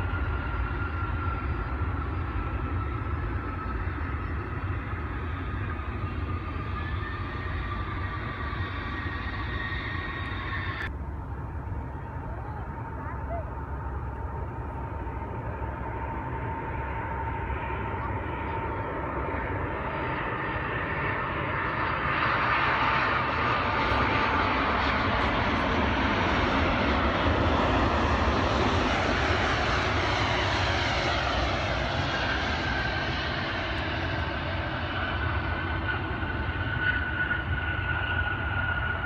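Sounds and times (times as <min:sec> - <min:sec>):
jet engines roaring past: 0:00.0 - 0:39.0.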